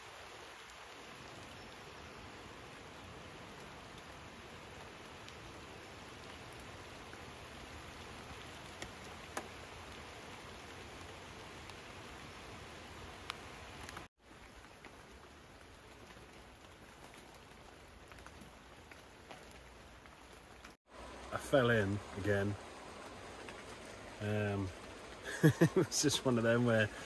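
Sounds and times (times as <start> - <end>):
rain falling on river: 0.0 - 27.0.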